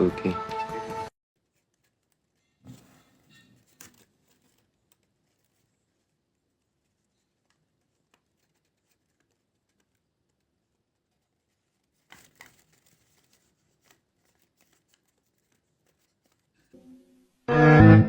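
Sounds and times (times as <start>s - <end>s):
paper rustling: 1.4s - 16.7s.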